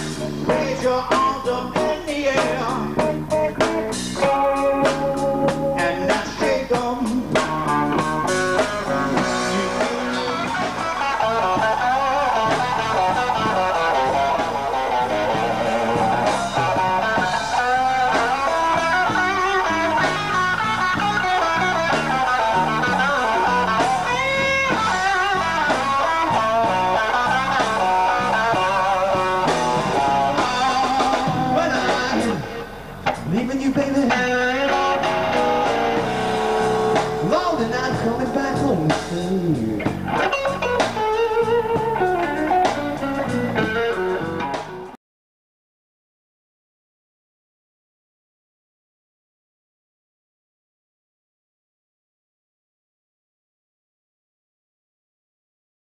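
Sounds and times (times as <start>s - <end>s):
blues rock band playing: 0.0s - 45.0s
electric guitar lead: 0.0s - 45.0s.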